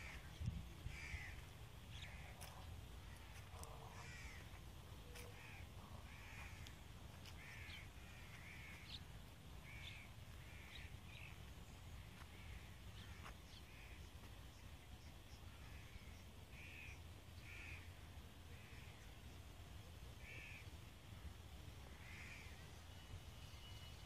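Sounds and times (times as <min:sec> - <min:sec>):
steady low rumble: 0:00.0 - 0:23.3
faint bird calls: 0:00.0 - 0:24.0.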